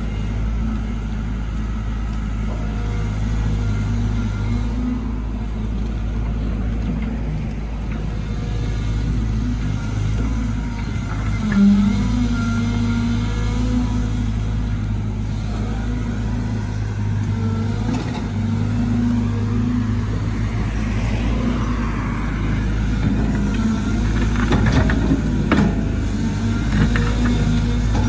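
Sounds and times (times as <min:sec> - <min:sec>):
excavator running: 0:00.0 - 0:28.0.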